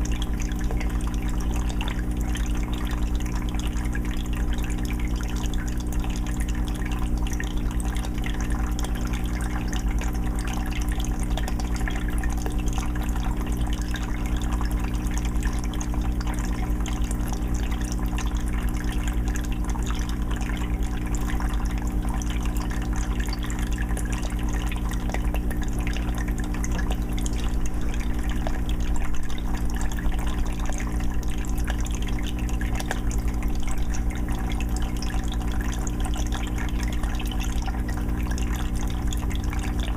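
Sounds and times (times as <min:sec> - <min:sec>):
low filter hum: 0:00.0 - 0:39.9
water trickling and splashing: 0:00.0 - 0:39.9.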